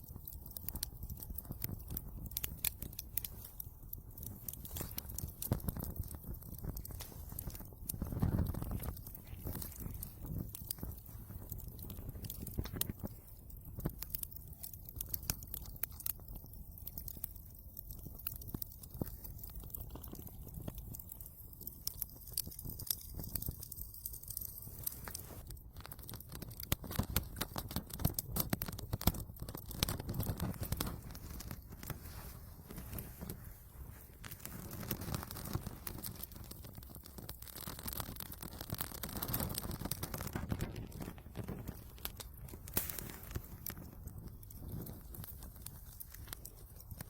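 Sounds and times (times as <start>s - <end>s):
fire low rumble: 0.0s - 47.0s
kindling crackling and popping: 0.0s - 47.0s.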